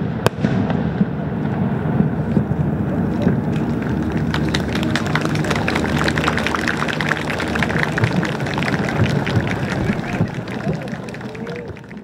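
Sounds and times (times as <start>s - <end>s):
low engine hum: 1.4s - 12.0s
crowd applauding: 2.2s - 12.0s.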